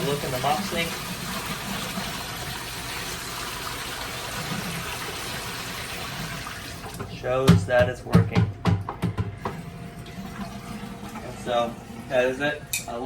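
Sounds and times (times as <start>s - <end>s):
liquid running into a sink: 0.0s - 12.6s.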